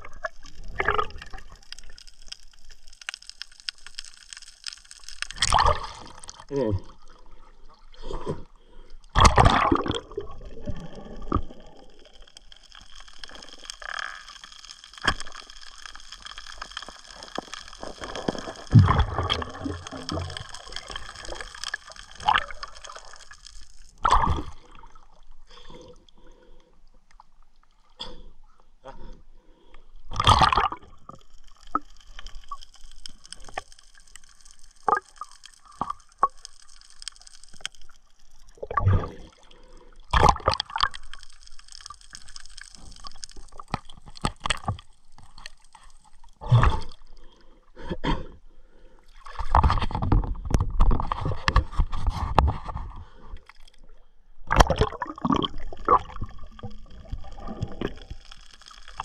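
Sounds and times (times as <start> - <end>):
underwater gurgling and sloshing: 0.0 - 59.0.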